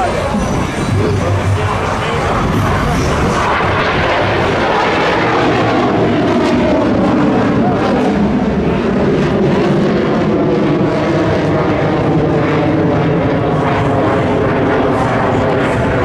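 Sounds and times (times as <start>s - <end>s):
jet aircraft flying overhead: 0.0s - 16.0s.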